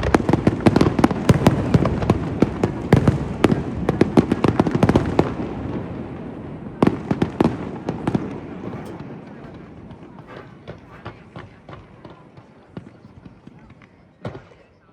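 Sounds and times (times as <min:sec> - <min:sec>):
fireworks banging and cracking: 0:00.0 - 0:14.8.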